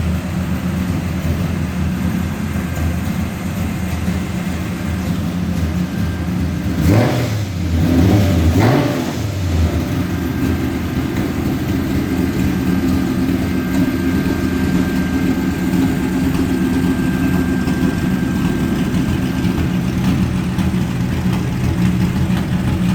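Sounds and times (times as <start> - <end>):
car engine blipped and idling: 0.0 - 22.9.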